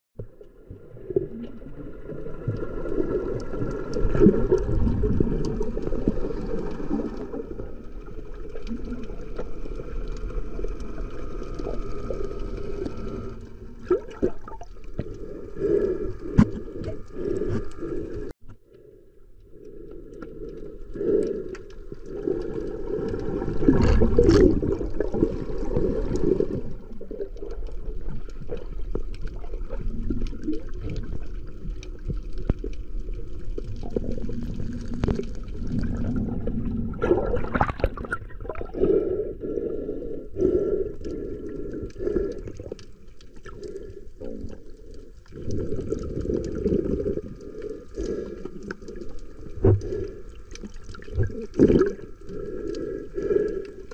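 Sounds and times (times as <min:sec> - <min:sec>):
muffled underwater sloshing: 0:00.2 - 0:53.9.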